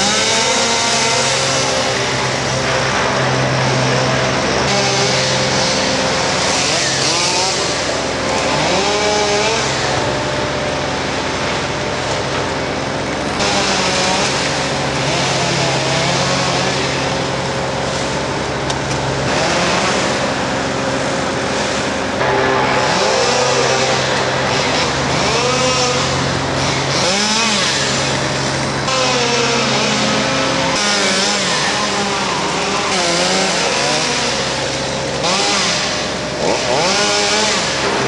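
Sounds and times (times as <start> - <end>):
chainsaw running: 0.0 - 38.0.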